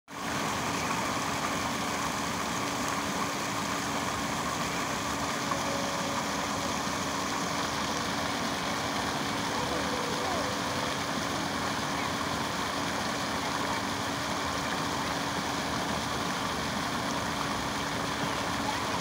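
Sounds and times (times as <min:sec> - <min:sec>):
fountain water splashing: 0:00.1 - 0:19.0
faint steady hum: 0:00.2 - 0:19.0.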